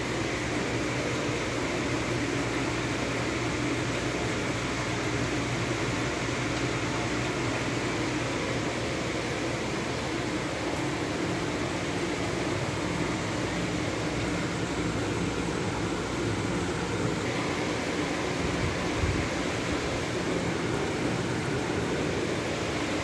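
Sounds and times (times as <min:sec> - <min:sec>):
ventilation hum and whir: 0:00.0 - 0:23.0.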